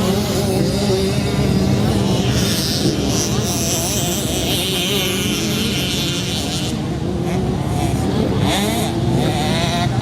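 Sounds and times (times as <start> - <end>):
motocross bikes racing: 0.0 - 10.0.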